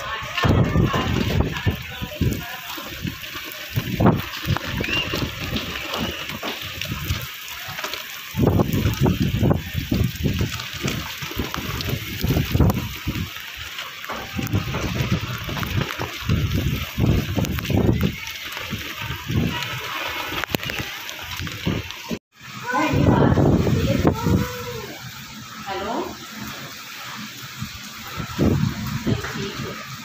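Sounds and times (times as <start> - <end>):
wind gusts buffeting microphone: 0.0 - 25.2, 27.5 - 30.0
heavy rain falling: 0.0 - 30.0.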